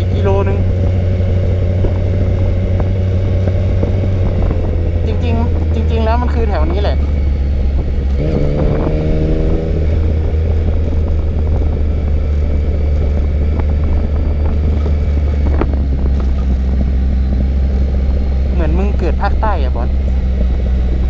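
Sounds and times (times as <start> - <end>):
motorcycle engine rumble: 0.0 - 21.0
steady pitched drone: 0.0 - 21.0
wind buffeting microphone: 0.0 - 21.0.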